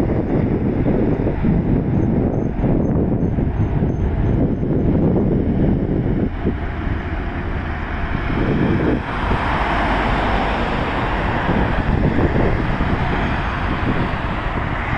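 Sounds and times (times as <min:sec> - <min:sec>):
cars driving by: 0:00.0 - 0:14.9
wind buffeting microphone: 0:00.0 - 0:14.9.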